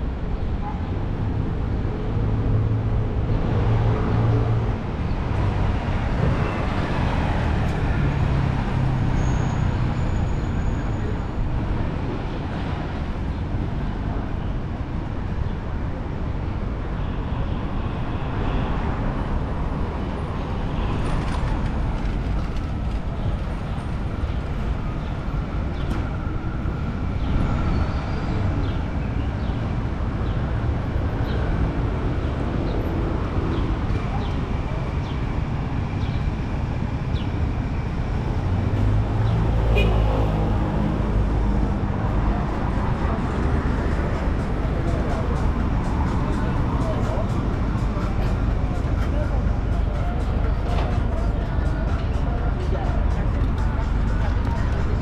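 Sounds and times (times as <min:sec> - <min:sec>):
city street traffic: 0:00.0 - 0:55.0.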